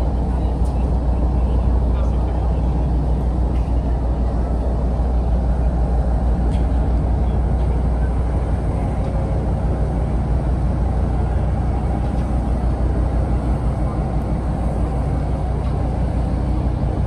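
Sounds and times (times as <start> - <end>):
deep rumble of ship engines: 0.0 - 17.0.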